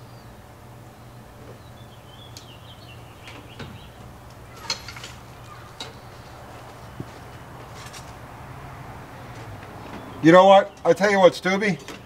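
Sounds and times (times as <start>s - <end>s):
bird chirping: 0.0s - 7.8s, 9.1s - 12.0s
steady low hum: 0.0s - 11.4s.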